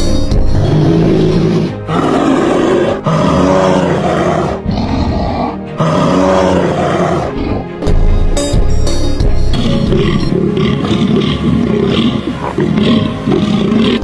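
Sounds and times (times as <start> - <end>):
large animal roaring: 0.5 - 7.8, 9.9 - 14.0.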